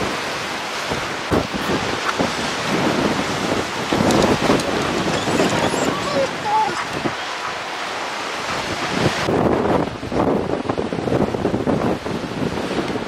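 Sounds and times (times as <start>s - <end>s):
heavy sea surf: 0.0s - 13.0s
wind buffeting microphone: 0.0s - 13.0s.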